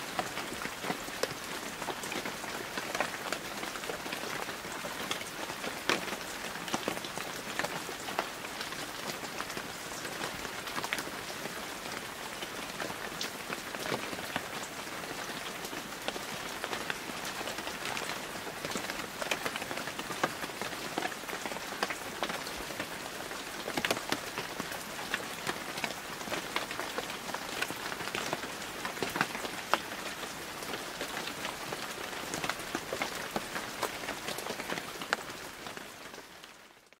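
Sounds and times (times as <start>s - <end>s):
steady rain on wet surface: 0.0s - 37.0s.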